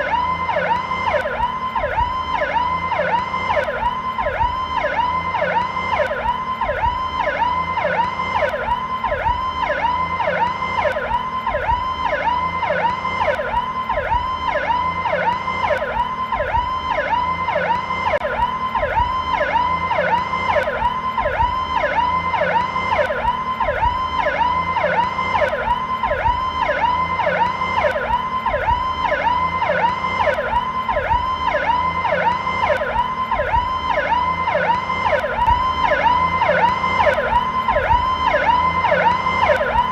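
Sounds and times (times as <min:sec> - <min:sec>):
police siren sweeping up and down: 0:00.0 - 0:39.9.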